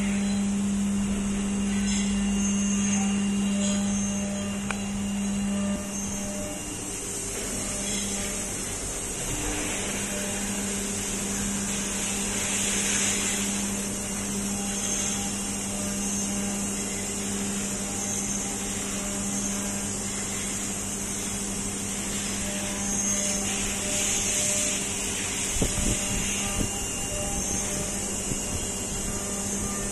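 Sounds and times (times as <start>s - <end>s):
machining centre humming and hissing: 0.0s - 29.9s.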